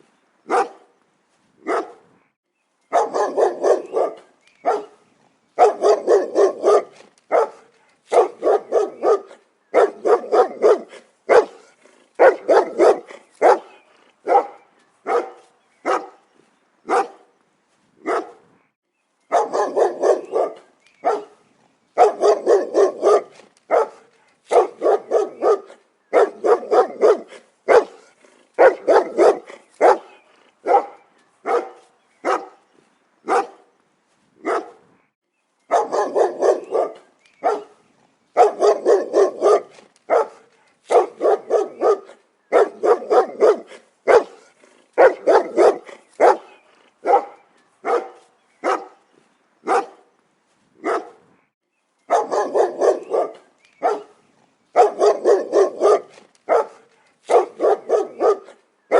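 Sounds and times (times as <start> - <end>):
dog barking: 0.5 - 0.9, 1.6 - 2.1, 2.9 - 5.0, 5.6 - 16.2, 16.9 - 17.2, 18.0 - 18.4, 19.3 - 21.4, 22.0 - 32.6, 33.3 - 33.7, 34.4 - 34.8, 35.7 - 37.8, 38.4 - 49.0, 49.6 - 50.1, 50.8 - 51.2, 52.1 - 58.9.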